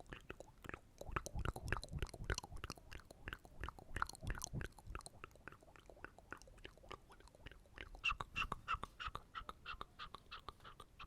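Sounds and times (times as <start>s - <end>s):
wet mouth clicks and smacks: 0.0s - 11.0s.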